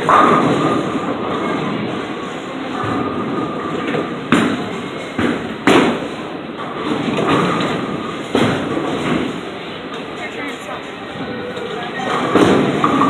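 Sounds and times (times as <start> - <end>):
bowling pins crashing: 0.0 - 9.5, 12.0 - 13.0
bowling balls rolling on lanes: 0.0 - 13.0.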